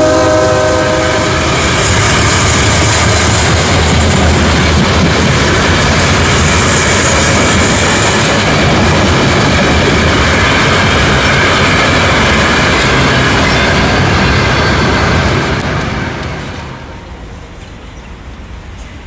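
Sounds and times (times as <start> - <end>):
steel train wheels on rails: 0.0 - 19.0.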